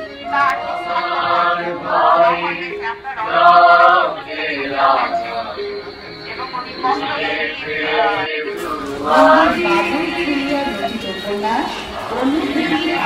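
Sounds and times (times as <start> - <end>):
chanting voices: 0.0 - 13.0.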